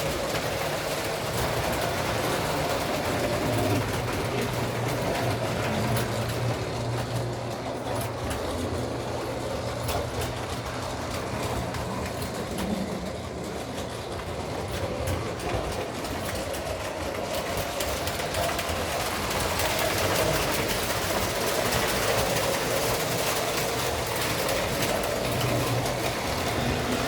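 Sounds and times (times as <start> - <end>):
wheels clicking over rail joints: 0.0 - 27.0.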